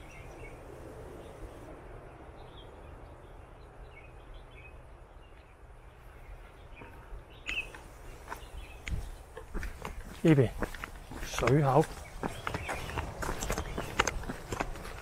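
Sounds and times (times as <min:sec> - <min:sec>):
small birds chirping faintly: 0:00.0 - 0:15.0.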